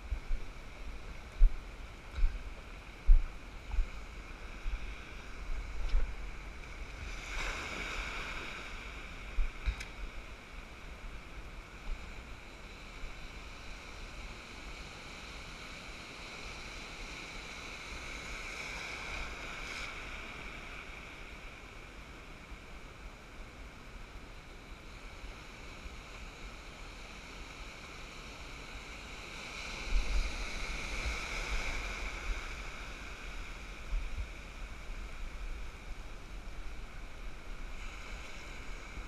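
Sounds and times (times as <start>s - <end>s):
surf washing through shallow water: 0.0s - 39.0s.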